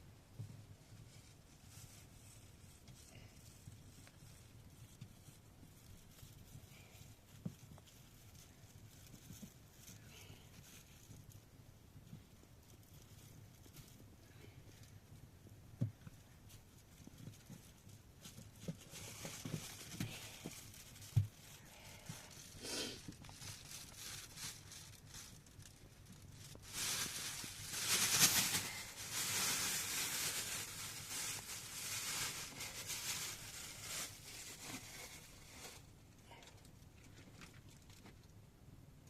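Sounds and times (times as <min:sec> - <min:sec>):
rustling crinkling noise: 0:00.2 - 0:38.5.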